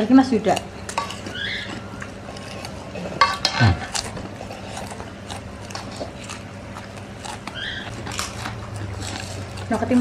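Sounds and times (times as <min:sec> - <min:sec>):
noodles slurped and chewed: 0:01.1 - 0:10.0.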